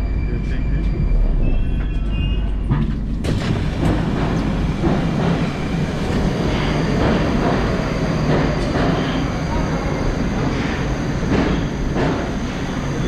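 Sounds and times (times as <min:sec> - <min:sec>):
station platform noise: 0:00.0 - 0:13.0
train doors opening: 0:00.5 - 0:13.0.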